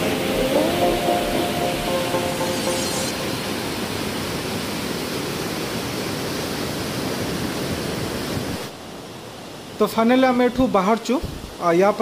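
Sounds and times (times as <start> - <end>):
mountain torrent rushing over boulders: 0.0 - 12.0.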